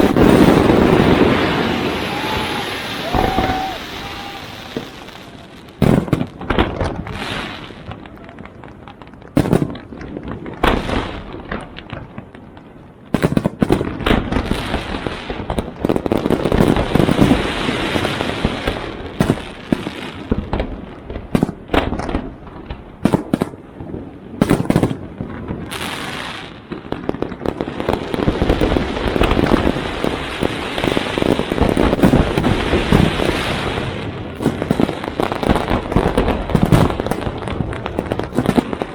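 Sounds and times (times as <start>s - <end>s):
loud firework booms: 0.0s - 8.3s, 9.3s - 12.1s, 13.1s - 38.9s
fireworks bangs and crackling: 0.0s - 38.9s.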